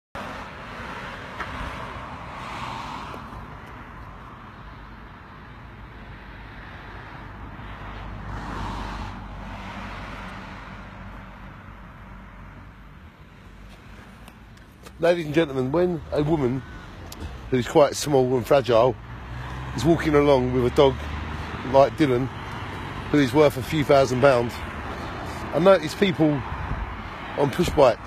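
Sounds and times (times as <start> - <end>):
cars passing: 0.2 - 28.0
low traffic rumble: 0.2 - 28.0.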